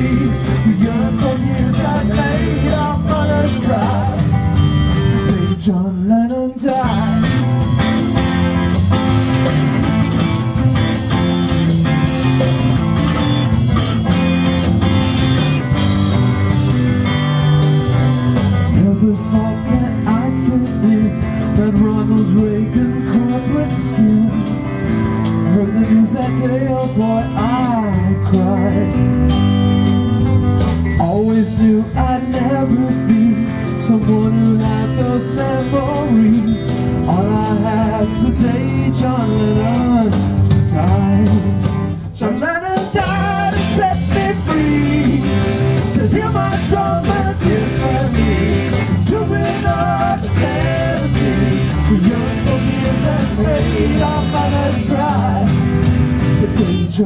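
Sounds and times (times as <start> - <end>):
lead electric guitar bending notes: 0.0 - 5.6, 6.9 - 42.1, 43.0 - 57.0
rock band playing: 0.0 - 57.0.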